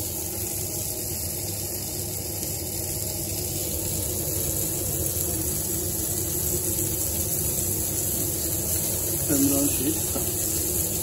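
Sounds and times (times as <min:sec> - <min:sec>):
meat hissing on charcoal grill: 0:00.0 - 0:11.0.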